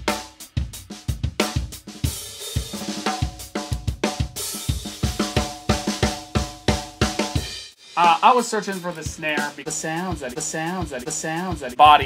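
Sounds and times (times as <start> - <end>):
drum kit groove: 0.0 - 12.0.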